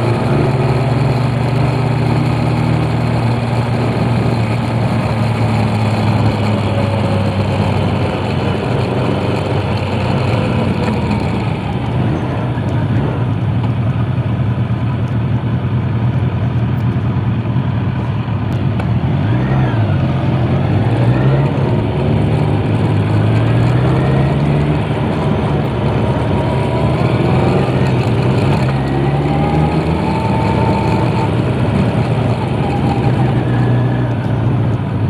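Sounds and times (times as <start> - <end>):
motorcycles riding with loud exhaust: 0.0 - 35.0.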